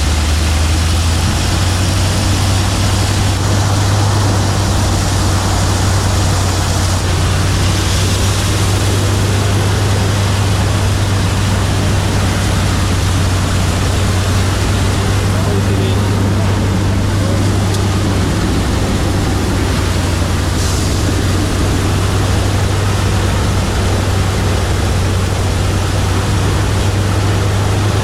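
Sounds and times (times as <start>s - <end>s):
heavy engine running: 0.0s - 28.0s.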